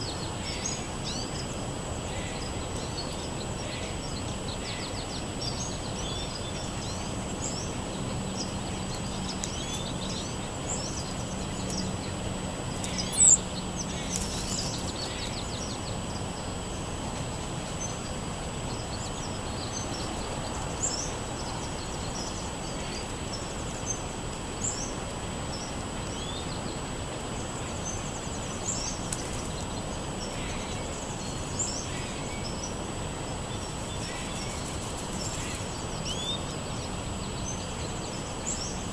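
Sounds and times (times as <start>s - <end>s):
outdoor background noise: 0.0s - 38.9s
songbirds chirping: 0.0s - 38.9s.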